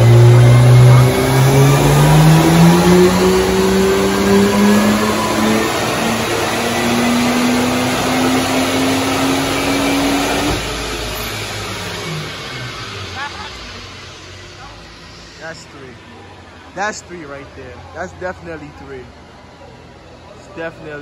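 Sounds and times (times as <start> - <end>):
car engine revving at full throttle: 0.0 - 21.0.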